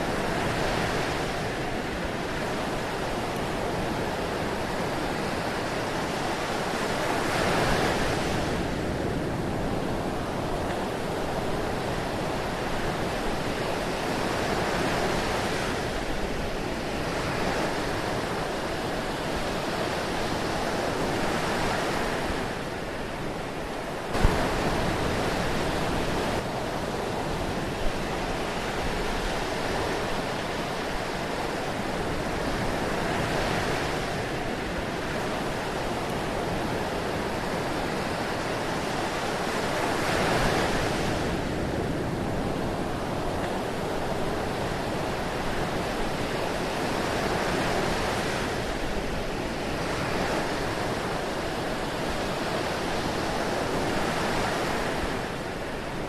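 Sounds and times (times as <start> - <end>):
ocean waves: 0.0 - 56.0.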